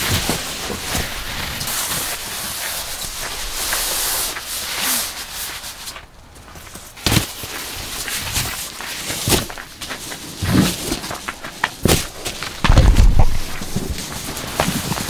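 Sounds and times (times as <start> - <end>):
foam mats rustling and crinkling: 0.0 - 15.0.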